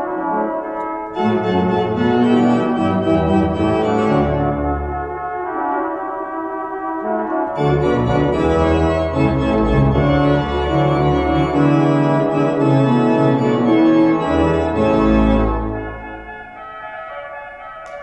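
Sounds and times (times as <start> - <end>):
organ playing full chords: 0.0 - 18.0.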